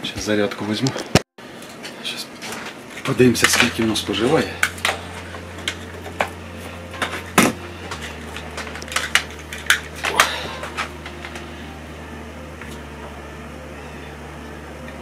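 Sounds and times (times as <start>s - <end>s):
steady low hum: 1.4s - 15.0s.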